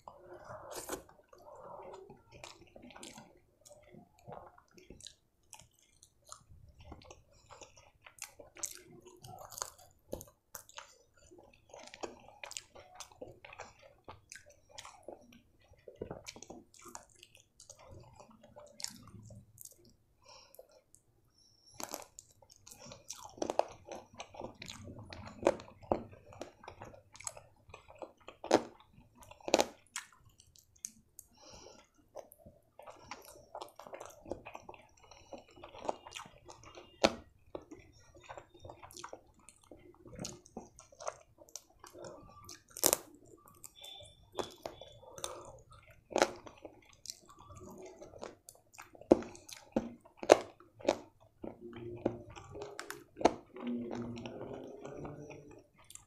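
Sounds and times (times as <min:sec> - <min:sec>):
chewing and biting fried chicken: 0:00.0 - 0:56.0.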